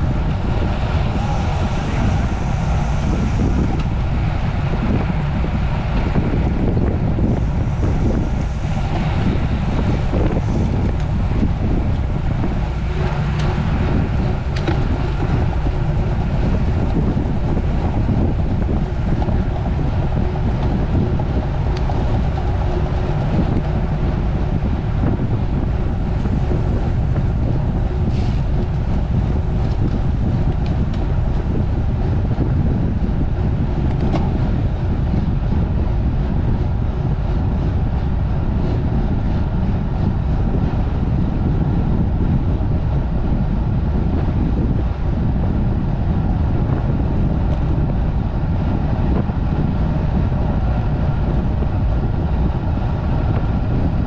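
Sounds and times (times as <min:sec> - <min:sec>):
low rumble: 0:00.0 - 0:54.0
wind buffeting microphone: 0:00.0 - 0:54.0.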